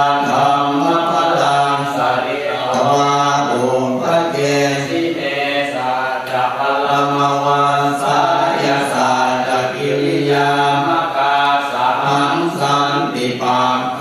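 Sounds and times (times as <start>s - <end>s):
monotone chanting: 0.0s - 14.0s.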